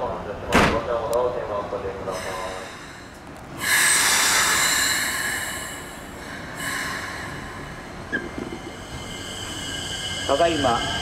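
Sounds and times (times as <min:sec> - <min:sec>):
train rushing through station: 0:00.0 - 0:11.0
high-pitched train tones: 0:02.1 - 0:11.0.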